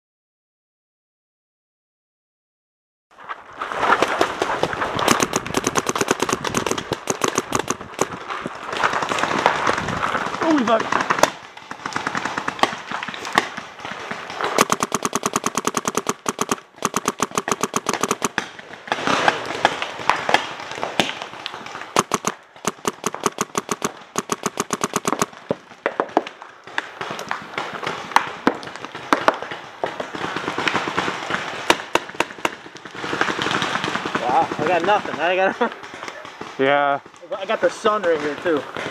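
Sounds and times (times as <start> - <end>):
paintball markers firing: 5.0 - 9.6, 10.4 - 36.7, 37.4 - 38.9.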